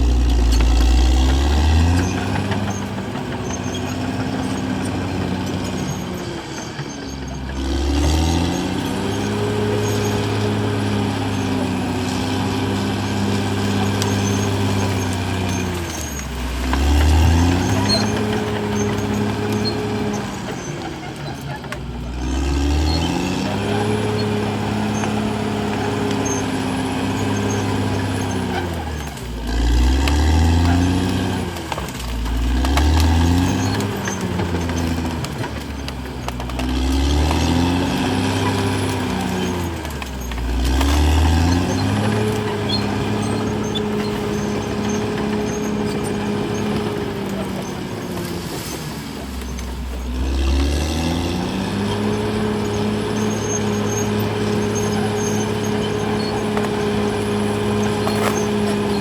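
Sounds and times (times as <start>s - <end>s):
bulldozer diesel engine running hard: 0.0s - 59.0s.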